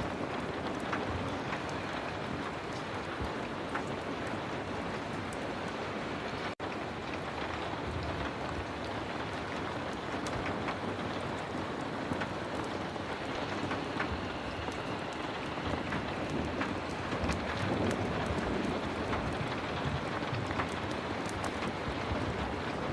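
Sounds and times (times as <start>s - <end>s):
heavy rain hissing: 0.0s - 22.9s.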